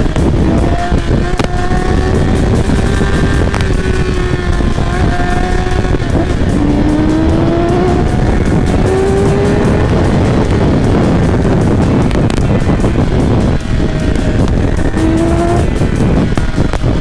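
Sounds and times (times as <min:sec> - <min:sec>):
motorcycle engine pulling hard: 0:00.0 - 0:17.0
wind rush on microphone: 0:00.0 - 0:17.0.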